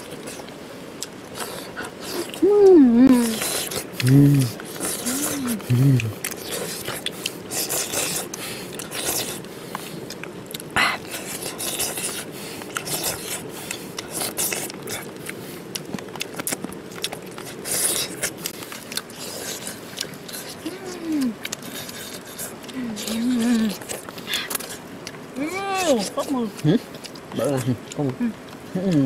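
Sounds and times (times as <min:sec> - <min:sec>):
person chewing and lip smacking: 0:00.0 - 0:29.0.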